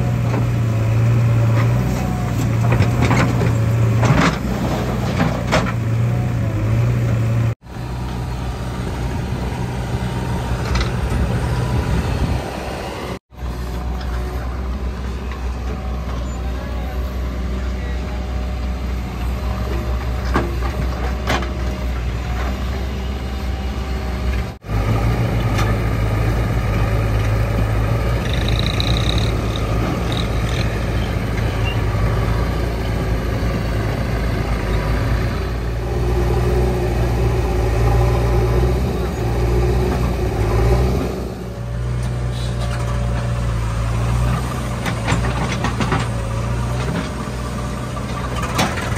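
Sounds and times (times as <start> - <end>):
diesel engine under load: 0.0 - 48.9
tractor engines running: 0.0 - 48.9.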